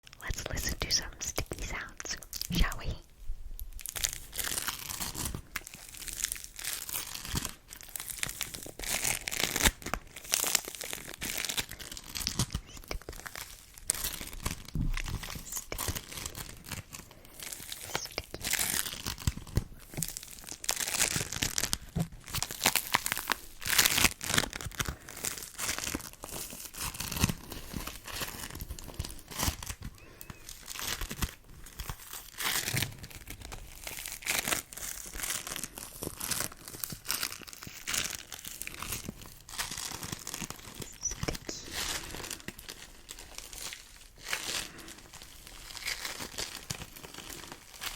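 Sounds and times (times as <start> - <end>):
sticky material crackling and peeling: 3.7 - 47.9.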